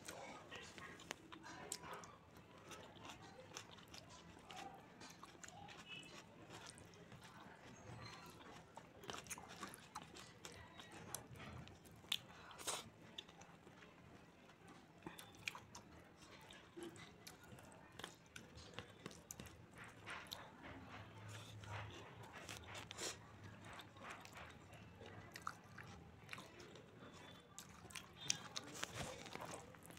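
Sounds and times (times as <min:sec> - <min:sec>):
chewing: 0:00.0 - 0:29.9.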